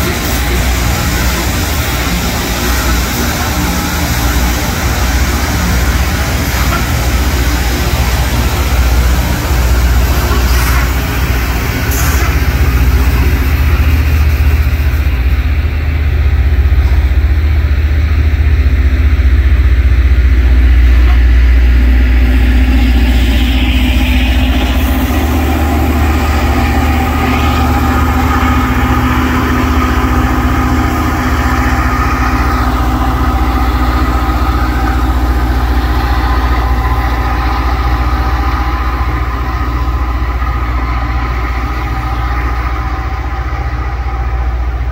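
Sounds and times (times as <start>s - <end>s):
steady whining tones: 0.0s - 44.9s
train engines running: 0.0s - 44.9s.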